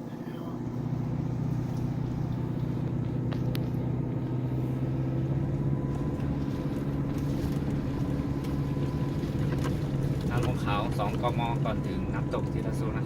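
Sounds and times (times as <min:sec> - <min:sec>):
thin steady whine: 0:00.0 - 0:13.0
vehicle engine running: 0:00.0 - 0:13.0.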